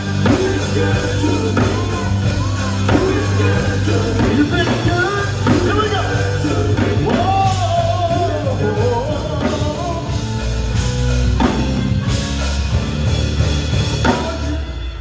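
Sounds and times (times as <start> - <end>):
gospel band playing loudly: 0.0 - 15.0.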